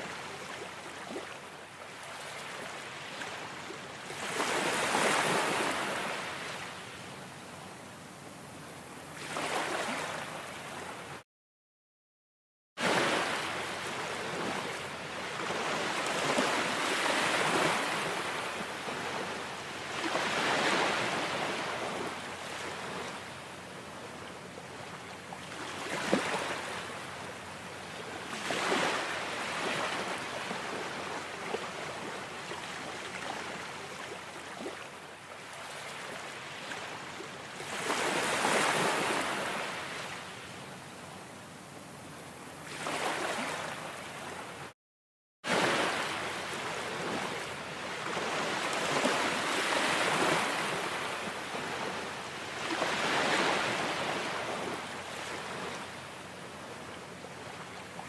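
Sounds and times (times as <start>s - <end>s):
waves breaking and washing in: 0.0s - 11.2s, 12.8s - 44.8s, 45.4s - 58.0s.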